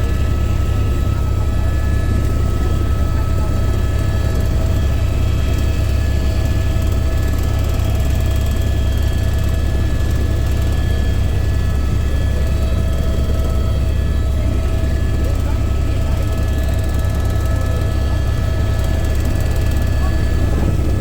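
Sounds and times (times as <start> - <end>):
helicopter rotor and engine drone: 0.0 - 21.0
turbine whining: 0.0 - 21.0.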